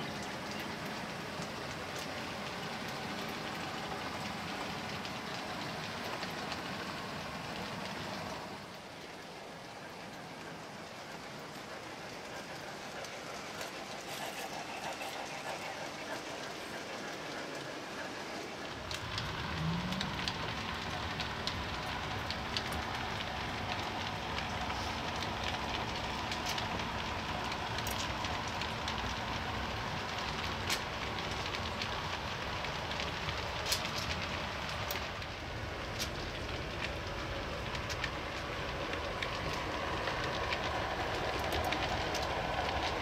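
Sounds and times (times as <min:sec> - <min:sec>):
model train rumble: 0:00.0 - 0:43.0
steady hiss: 0:00.0 - 0:43.0.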